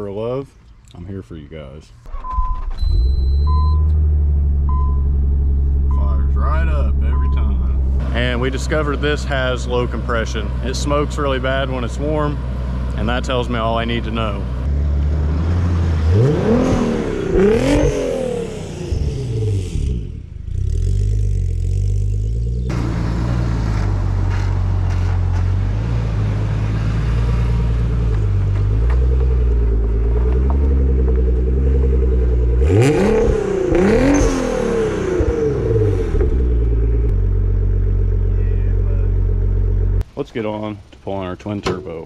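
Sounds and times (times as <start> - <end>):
car engine revving and idling: 3.0 - 40.9.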